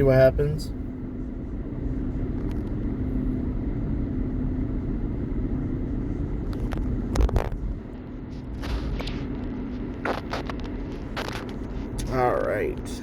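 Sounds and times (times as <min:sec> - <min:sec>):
car engine hum: 0:00.0 - 0:13.0
road rumble inside car: 0:00.0 - 0:13.0.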